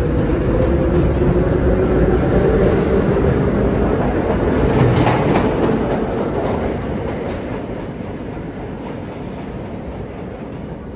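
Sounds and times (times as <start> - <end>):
subway train rumbling: 0.0 - 10.9.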